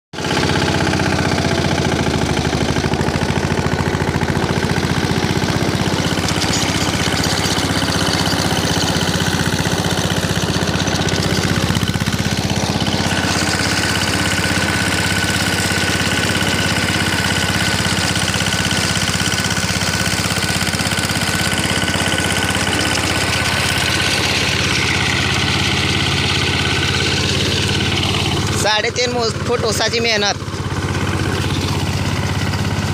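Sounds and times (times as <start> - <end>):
tractor engine running: 0.2 - 32.9.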